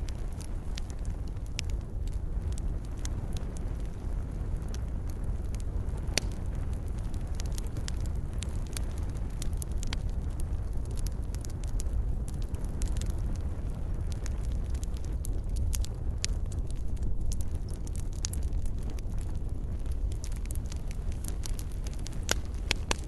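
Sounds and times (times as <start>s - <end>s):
fire crackling and popping: 0.0s - 23.0s
low fire rumble: 0.0s - 23.0s.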